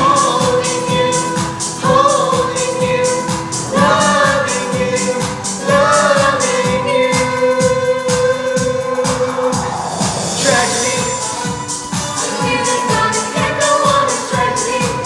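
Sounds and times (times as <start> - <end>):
music with steady drum beat: 0.0 - 15.0
person singing: 0.0 - 15.0.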